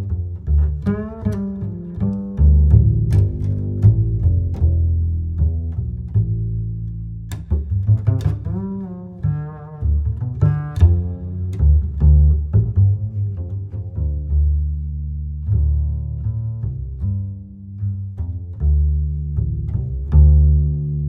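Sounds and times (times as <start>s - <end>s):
low bowed and plucked strings: 0.0s - 21.0s.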